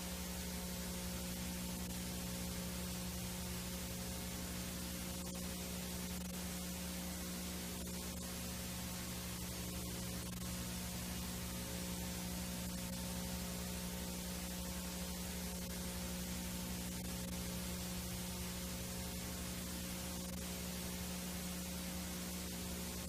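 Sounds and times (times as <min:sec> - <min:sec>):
low electrical hum: 0:00.0 - 0:23.0
tape hiss: 0:00.0 - 0:23.0.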